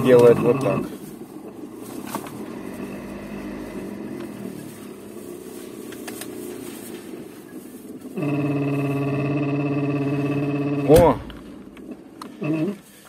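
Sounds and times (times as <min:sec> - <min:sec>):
blower motor fluttering whir: 0:00.0 - 0:13.0.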